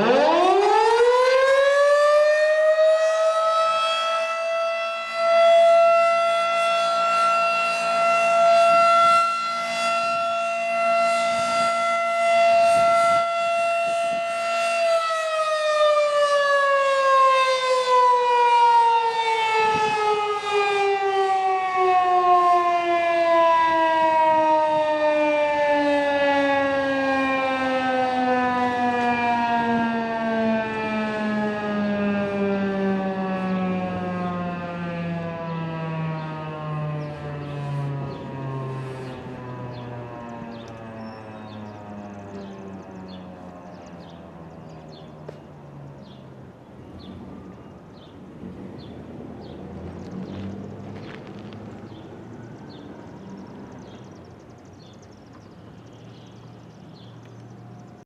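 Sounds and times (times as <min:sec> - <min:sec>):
warning siren tone: 0:00.0 - 0:58.0.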